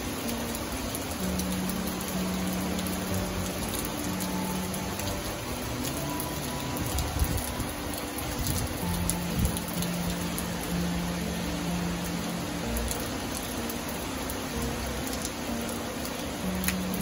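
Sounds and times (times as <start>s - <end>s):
heavy rain falling: 0.0s - 17.0s
soft music of long held notes: 0.0s - 17.0s.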